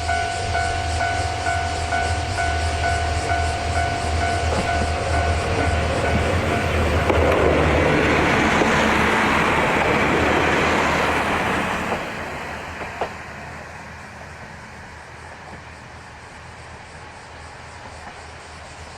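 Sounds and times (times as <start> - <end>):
diesel railcar passing: 0.0 - 18.9.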